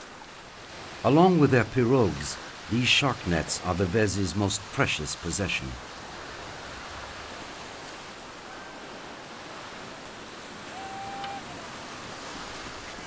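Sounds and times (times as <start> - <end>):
surf washing on beach: 0.0 - 13.0
wind: 0.0 - 13.0.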